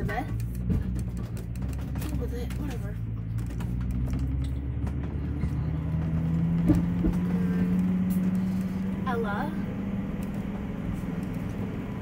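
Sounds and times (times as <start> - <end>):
low engine note: 0.0 - 12.0
road noise hum in vehicle: 0.0 - 12.0.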